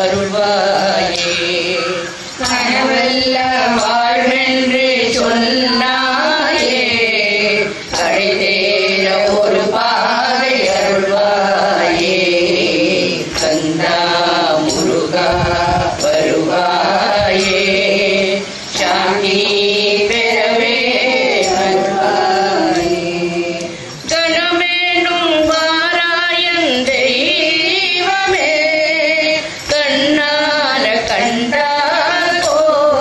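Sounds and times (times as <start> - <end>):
women singing devotional chant: 0.0 - 33.0.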